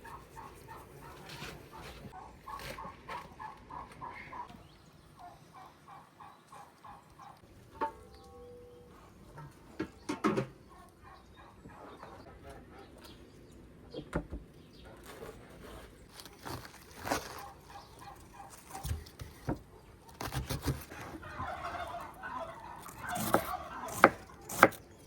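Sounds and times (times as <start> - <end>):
chickens clucking: 0.0 - 15.2, 17.2 - 20.1, 20.9 - 24.7.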